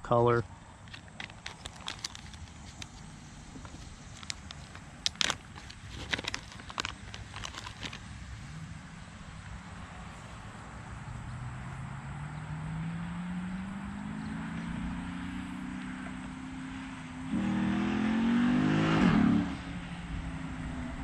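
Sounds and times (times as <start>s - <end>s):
engine accelerating: 2.0s - 21.0s.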